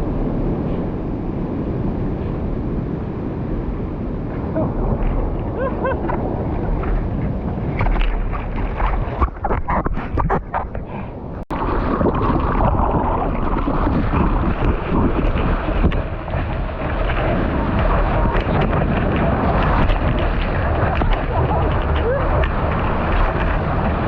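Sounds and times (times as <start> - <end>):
rough surf: 0.0 - 24.0
wind buffeting microphone: 0.0 - 24.0.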